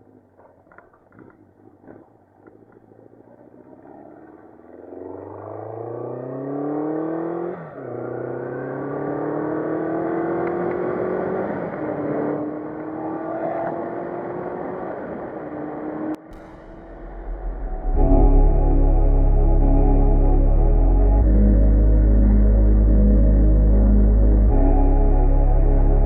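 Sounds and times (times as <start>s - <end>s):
motorcycle engine accelerating: 0.5s - 26.0s.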